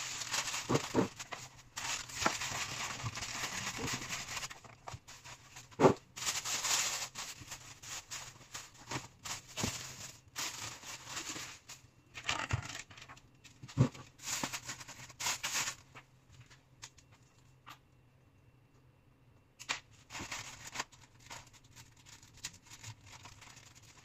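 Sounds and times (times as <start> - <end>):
plastic bags rustling: 0.0 - 17.0, 19.8 - 24.0.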